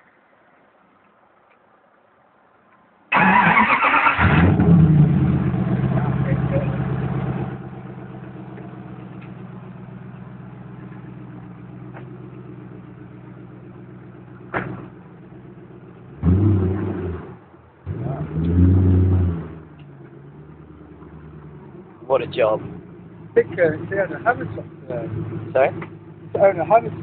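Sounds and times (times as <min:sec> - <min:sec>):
car engine idling and revving: 0:03.2 - 0:27.0.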